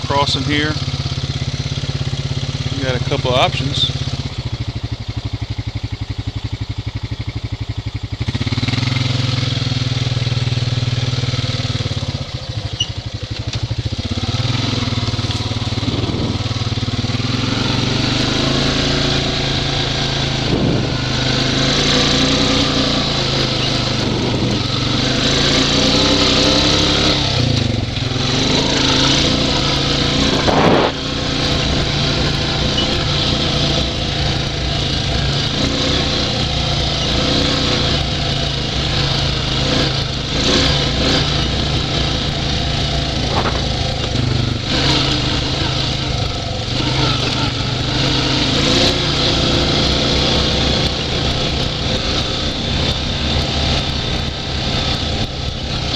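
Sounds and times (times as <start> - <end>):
off-road vehicle engine revving: 0.0 - 55.9.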